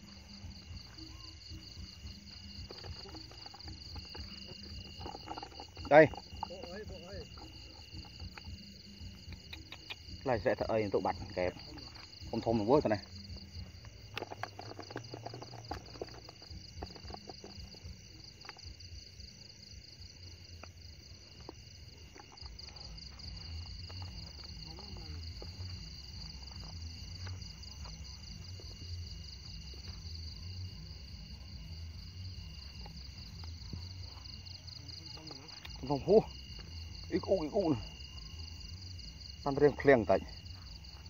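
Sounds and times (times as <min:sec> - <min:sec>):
crickets and insects chirping: 0:00.0 - 0:41.0.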